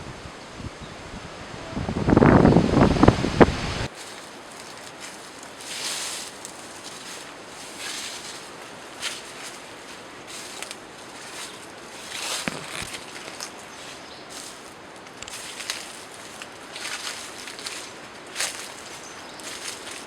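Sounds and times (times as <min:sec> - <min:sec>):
steady outdoor hiss: 0:00.0 - 0:20.0
soft rustling: 0:03.9 - 0:20.0.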